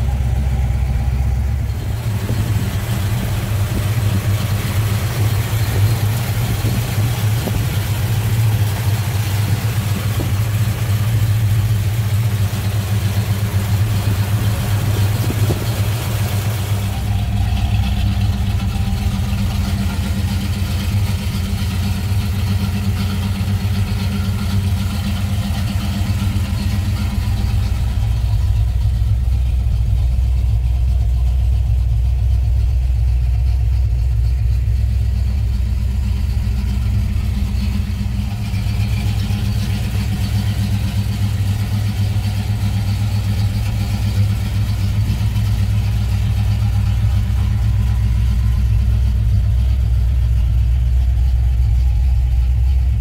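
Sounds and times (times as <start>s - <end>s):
car engine idling: 0.0s - 53.0s
deep hum: 0.0s - 53.0s.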